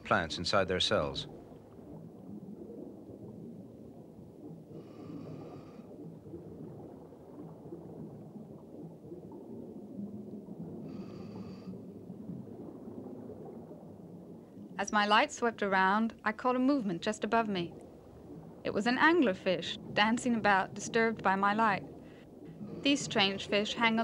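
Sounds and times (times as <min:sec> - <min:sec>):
exhaled bubbles rumbling: 0:00.0 - 0:24.0.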